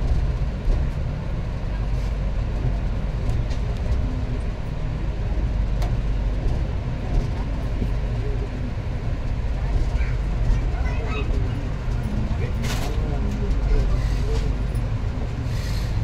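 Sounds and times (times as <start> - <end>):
train rumbling from inside: 0.0 - 16.0.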